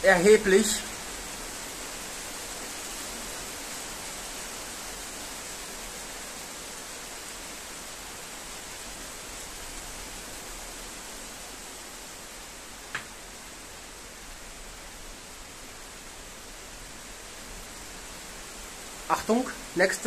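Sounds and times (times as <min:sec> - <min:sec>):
rain hissing: 0:00.0 - 0:20.0.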